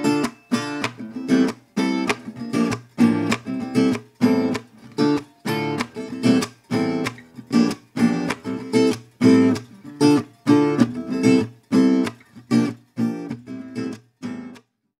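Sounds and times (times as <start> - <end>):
strummed acoustic guitar chords: 0.0 - 14.7.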